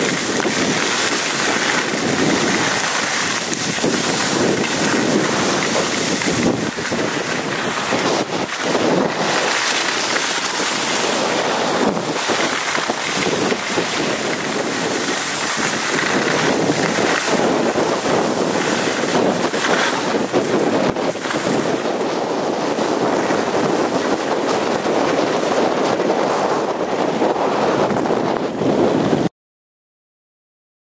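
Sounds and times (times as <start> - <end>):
skis scraping over snow: 0.0 - 29.3
wind rushing over microphone: 0.0 - 29.3.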